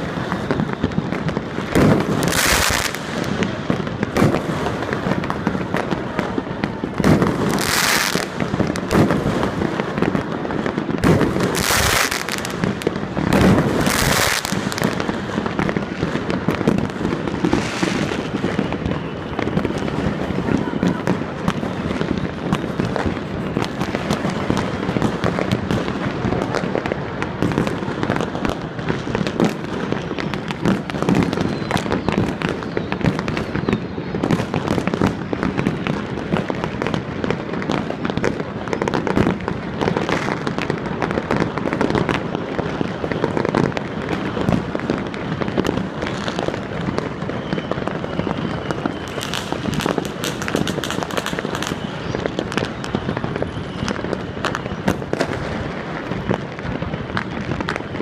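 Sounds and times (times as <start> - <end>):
fireworks and firecrackers banging: 0.0 - 58.0.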